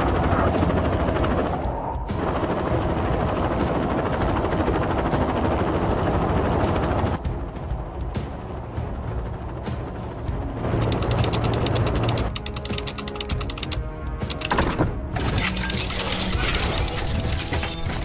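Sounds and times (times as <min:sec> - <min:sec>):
helicopter rotor chopping: 0:00.0 - 0:07.2, 0:07.8 - 0:18.0.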